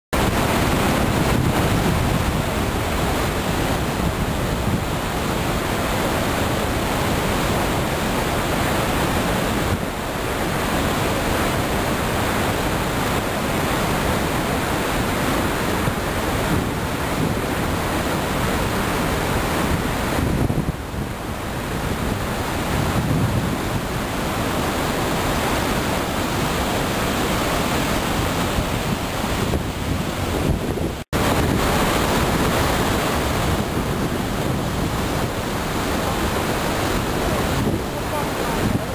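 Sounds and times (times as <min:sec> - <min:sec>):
waterfall roar: 0:00.2 - 0:38.9.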